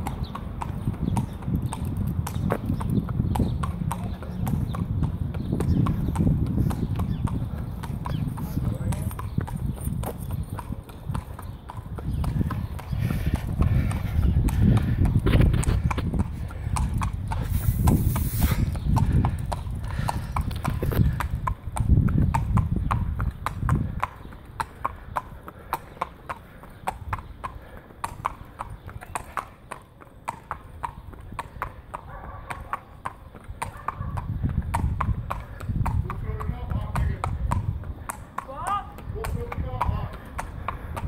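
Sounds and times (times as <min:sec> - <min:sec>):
horse hooves on tarmac: 0:00.0 - 0:41.0.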